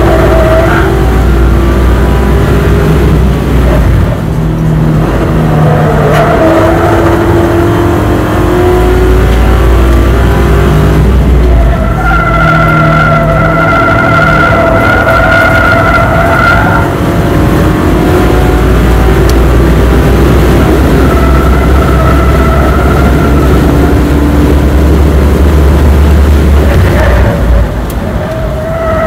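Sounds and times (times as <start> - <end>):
car engine at high revs: 0.0 - 29.0
road and wind noise: 0.0 - 29.0.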